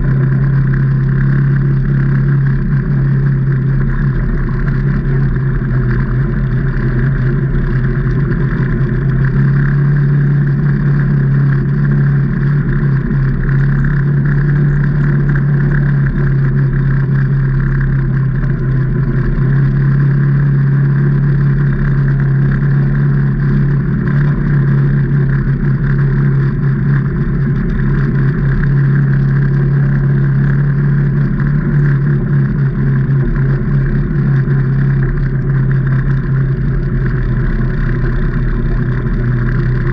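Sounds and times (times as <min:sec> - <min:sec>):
vehicle engine running steadily: 0:00.0 - 0:39.9.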